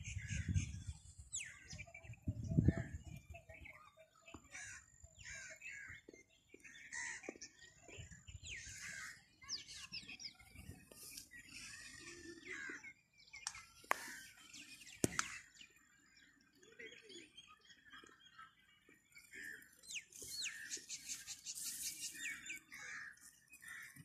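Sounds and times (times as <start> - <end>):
birds chirping and whistling: 0.0 - 24.0.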